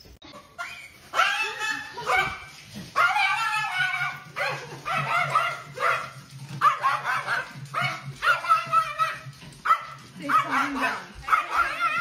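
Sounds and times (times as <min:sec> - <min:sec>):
dog crying: 0:00.3 - 0:12.0.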